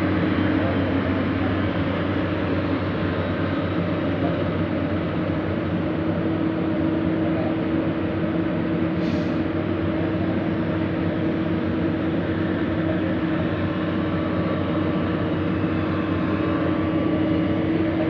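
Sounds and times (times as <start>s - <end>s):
constant hum: 0.0s - 18.0s
heavy diesel engine running: 0.0s - 18.0s.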